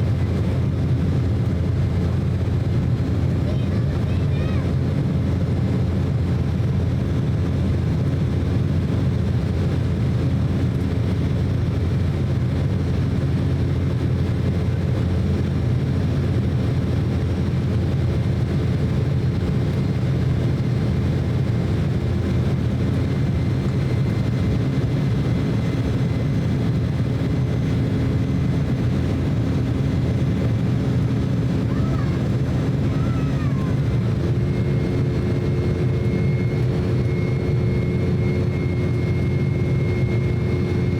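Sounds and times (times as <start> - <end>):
cabin airflow rush: 0.0 - 40.9
jet engines humming: 0.0 - 40.9
steady engine tones: 0.0 - 40.9.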